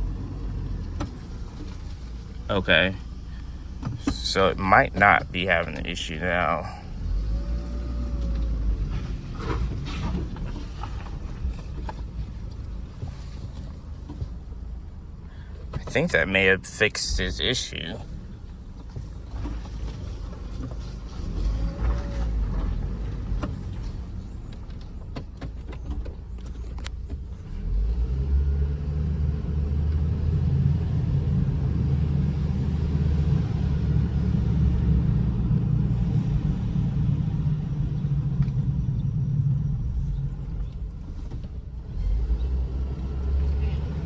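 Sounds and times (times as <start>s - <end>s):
engine and road rumble in car: 0.0s - 44.0s.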